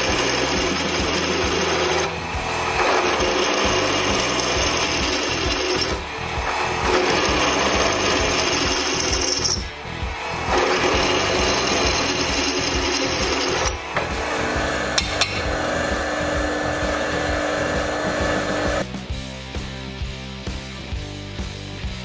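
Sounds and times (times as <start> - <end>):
drill bit grinding metal: 0.0 - 18.8
drill press running: 0.0 - 18.9.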